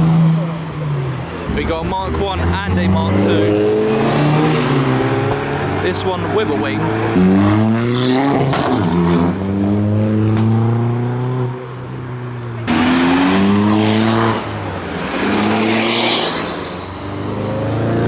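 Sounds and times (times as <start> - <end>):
car engines revving: 0.0 - 18.0
engines droning: 0.0 - 18.0.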